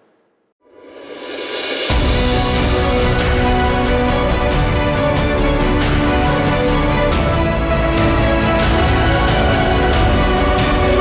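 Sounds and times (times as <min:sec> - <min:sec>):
background music with steady beat: 0:01.5 - 0:11.0.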